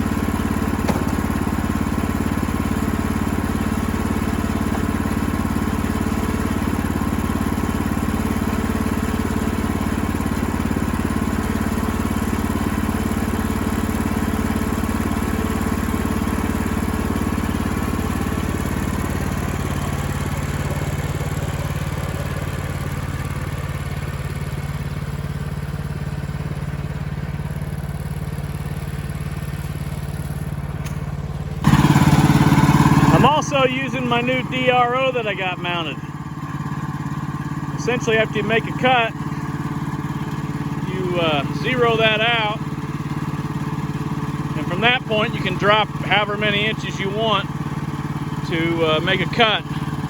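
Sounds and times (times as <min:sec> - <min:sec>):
small sawmill engine running: 0:00.0 - 0:50.0.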